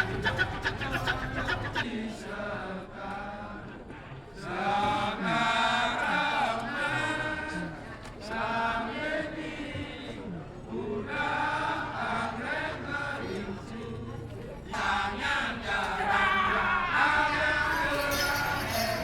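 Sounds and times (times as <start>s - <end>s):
male chorus chanting: 0.0s - 19.0s.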